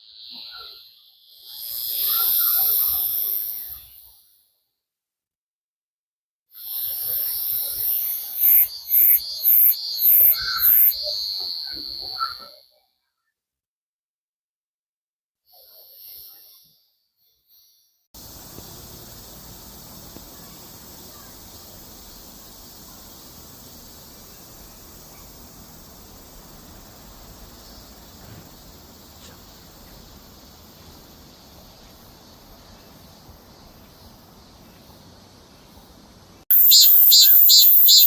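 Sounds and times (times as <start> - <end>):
cicadas buzzing: 0.0 - 4.4, 6.5 - 12.6, 15.5 - 38.0.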